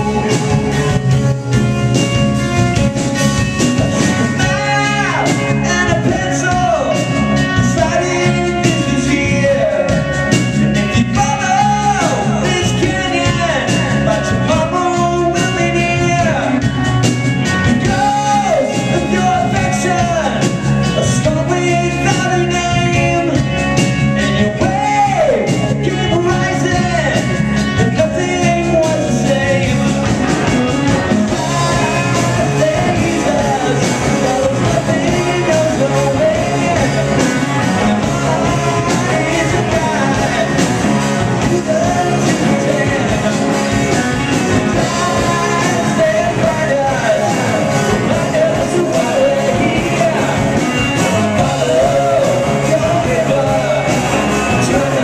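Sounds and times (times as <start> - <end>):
drum kit: 0.0 - 55.0
loud electric guitars: 0.0 - 55.0
sliding guitar lead line: 0.0 - 55.0.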